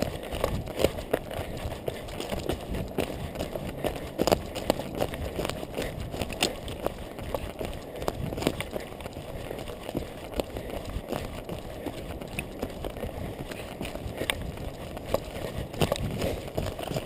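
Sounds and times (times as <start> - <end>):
running footsteps on twigs: 0.0 - 17.0
twigs crackling underfoot: 0.0 - 17.0.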